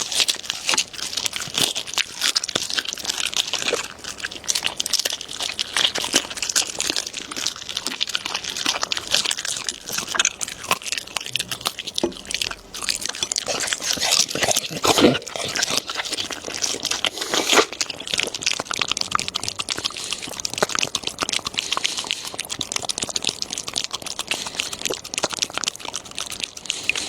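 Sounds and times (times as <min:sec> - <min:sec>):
dog chewing and crunching food: 0:00.0 - 0:27.0.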